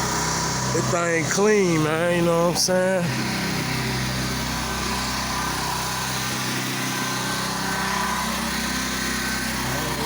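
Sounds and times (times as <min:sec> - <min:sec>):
pressure washer engine running: 0:00.0 - 0:10.0.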